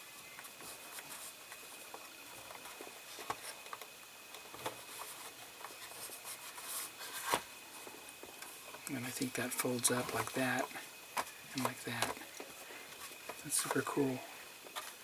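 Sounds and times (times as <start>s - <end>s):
plastic parts rustling: 0.4s - 15.0s.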